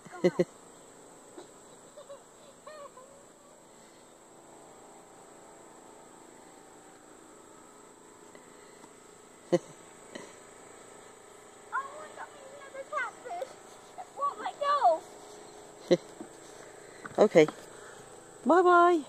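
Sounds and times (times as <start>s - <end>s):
chorus of insects: 0.0s - 19.0s.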